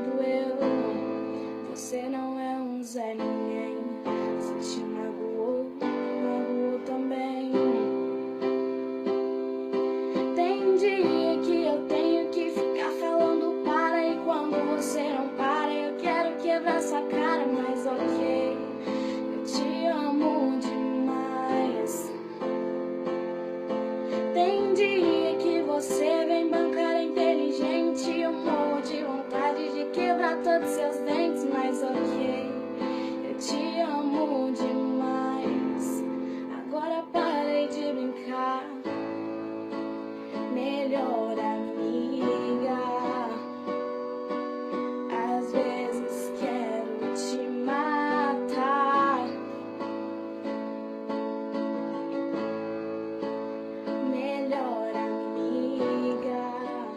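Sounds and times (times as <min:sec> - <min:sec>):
woman singing: 0:00.0 - 0:50.2, 0:53.8 - 0:56.9
piano: 0:00.0 - 0:56.9.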